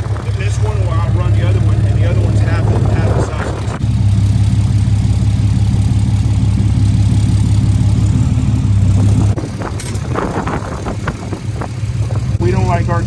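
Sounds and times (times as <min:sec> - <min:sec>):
diesel engine fast idle: 0:00.0 - 0:13.0.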